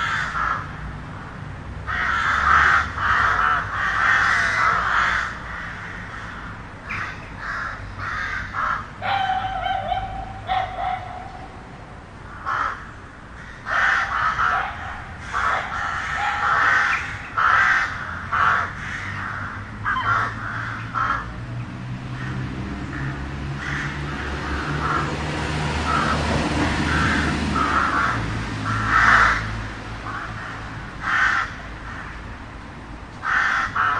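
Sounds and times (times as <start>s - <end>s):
crows cawing: 0.0s - 0.8s, 1.8s - 11.4s, 12.3s - 21.4s, 22.1s - 32.3s, 33.2s - 33.9s
low rumble of city traffic: 0.0s - 33.9s.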